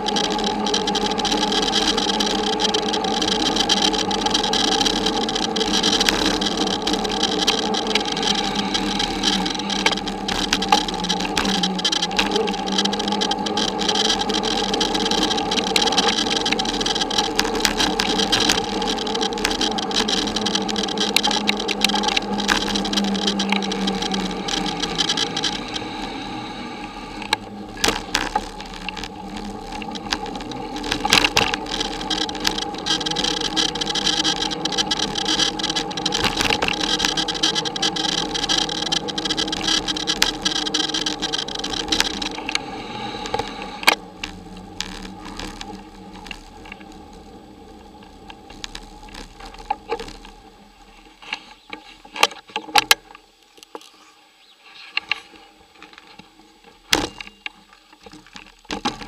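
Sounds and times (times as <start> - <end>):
bicycle tyre hum: 0.0 - 59.0.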